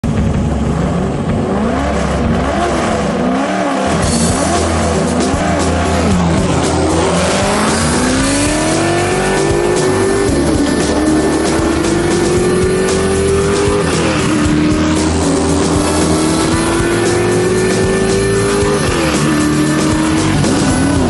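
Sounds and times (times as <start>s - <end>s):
music: 0.0s - 21.0s
race car engine revving: 0.0s - 21.0s.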